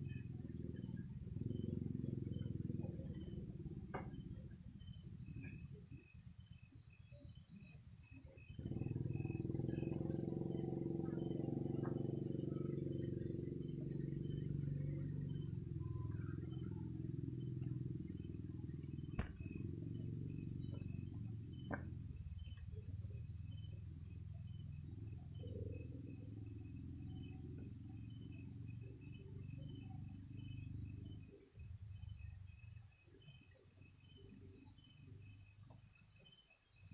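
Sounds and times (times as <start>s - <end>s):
insects chirring: 0.0s - 36.9s.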